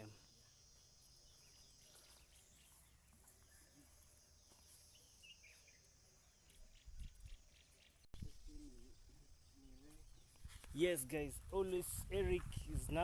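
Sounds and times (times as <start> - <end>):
bird chirp: 0.0 - 11.3.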